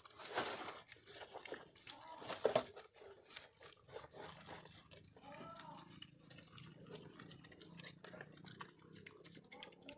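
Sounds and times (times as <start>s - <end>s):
pigs chewing and crunching greens: 0.0s - 9.9s.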